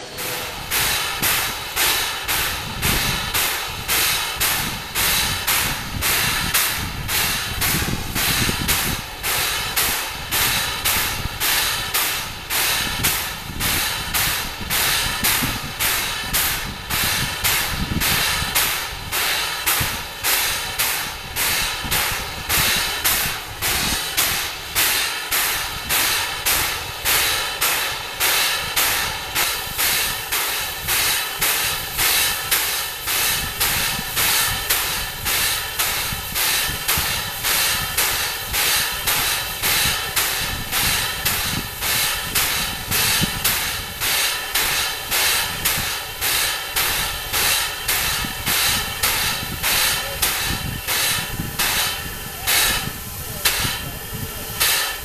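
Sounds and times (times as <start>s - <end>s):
steam compressor exhaust chuffing: 0.0s - 55.0s
steam hissing: 0.0s - 55.0s.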